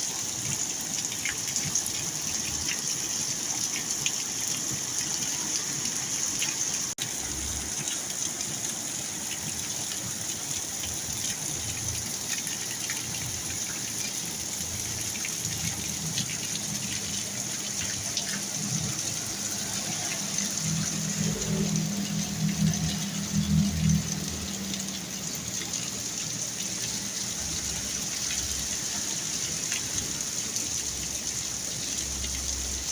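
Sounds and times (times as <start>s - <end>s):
heavy rain pouring: 0.0s - 32.9s
water gushing: 0.0s - 32.9s.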